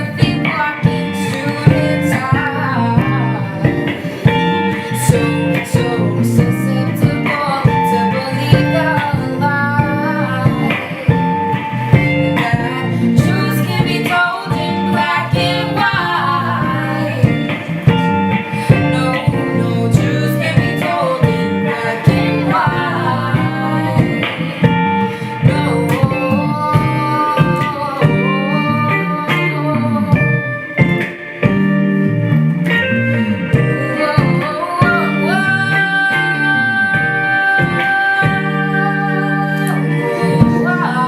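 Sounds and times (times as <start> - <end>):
guitar with bent notes: 0.0 - 41.0
soul band playing live: 0.0 - 41.0.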